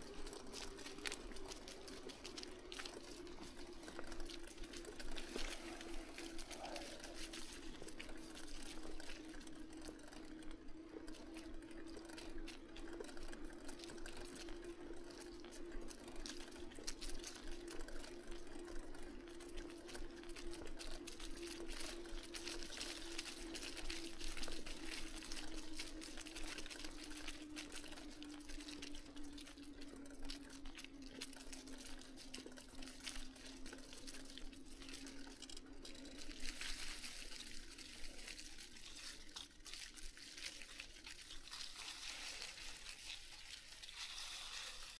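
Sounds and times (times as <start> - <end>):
bicycle tyres on dry leaves: 0.0 - 45.0.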